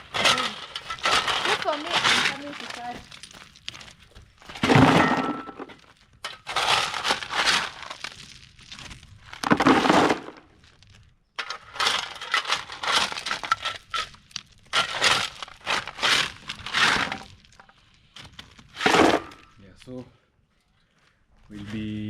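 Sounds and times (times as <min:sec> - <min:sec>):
stones grating and rattling: 0:00.0 - 0:19.6.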